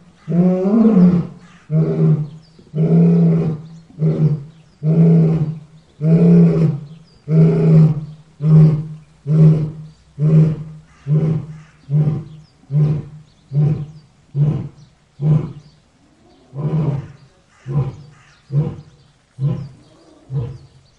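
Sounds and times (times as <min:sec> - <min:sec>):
lion roaring: 0:00.3 - 0:20.8.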